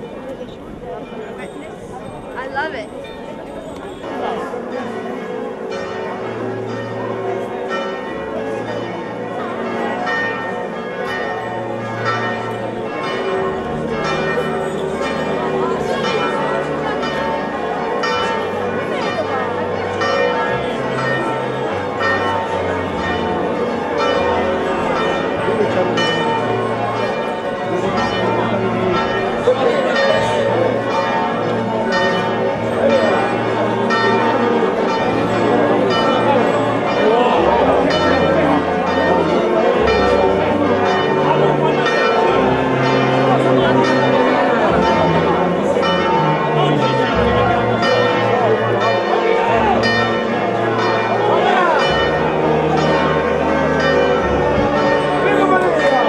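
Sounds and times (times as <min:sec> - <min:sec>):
church bells pealing: 0:00.0 - 0:56.0
street crowd voices: 0:00.0 - 0:56.0.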